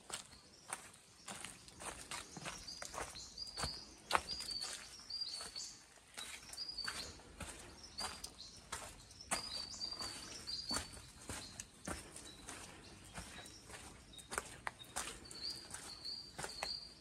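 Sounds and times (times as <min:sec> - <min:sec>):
small bird chirping: 0:00.2 - 0:17.0.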